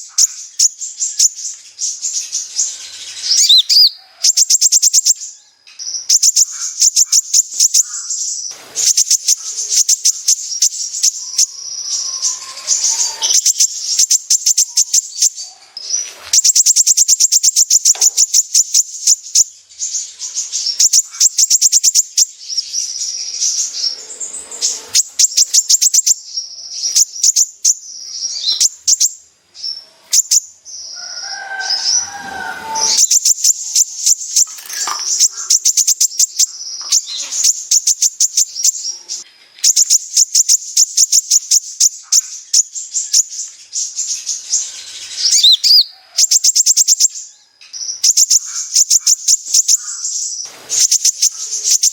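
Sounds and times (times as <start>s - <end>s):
sunbird singing rapid trills: 0.0s - 51.9s.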